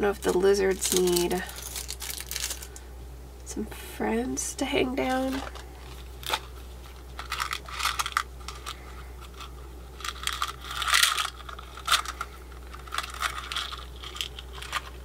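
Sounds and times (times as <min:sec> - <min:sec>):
plastic packaging rustling: 0:00.0 - 0:02.8, 0:05.0 - 0:15.0.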